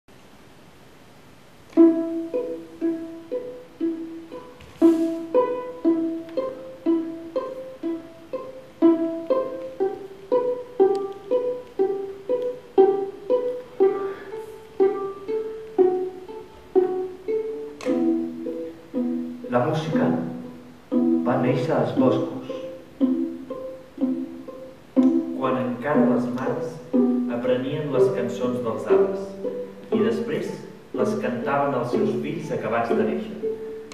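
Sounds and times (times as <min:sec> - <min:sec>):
plucked string melody: 0:01.7 - 0:33.9.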